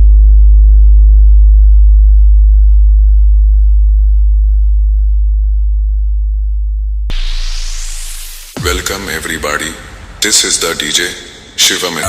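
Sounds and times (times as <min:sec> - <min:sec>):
deep electronic sub-bass tone: 0:00.0 - 0:11.6.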